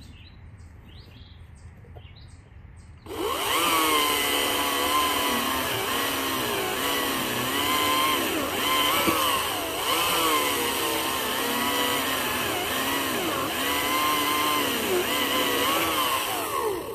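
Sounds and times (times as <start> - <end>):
electric chainsaw cutting log: 3.0 - 16.9.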